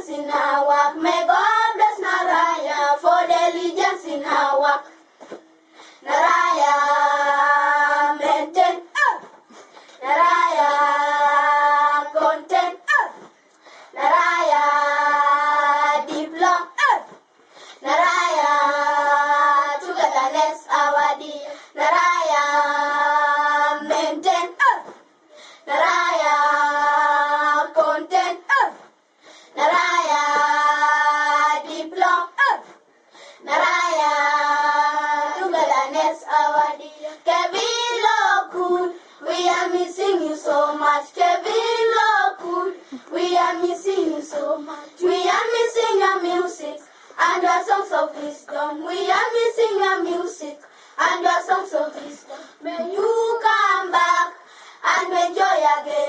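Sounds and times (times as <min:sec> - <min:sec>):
children singing unaccompanied: 0:00.0 - 0:05.0, 0:06.0 - 0:09.3, 0:10.0 - 0:13.0, 0:13.9 - 0:16.8, 0:17.8 - 0:25.0, 0:25.6 - 0:28.8, 0:29.5 - 0:32.7, 0:33.4 - 0:56.0.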